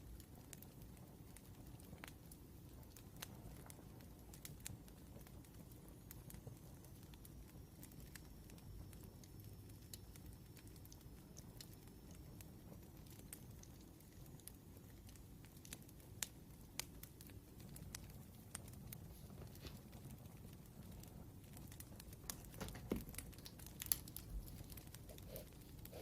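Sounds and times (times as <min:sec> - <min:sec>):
low fire rumble: 0:00.0 - 0:26.0
wood fire crackling and popping: 0:00.0 - 0:26.0.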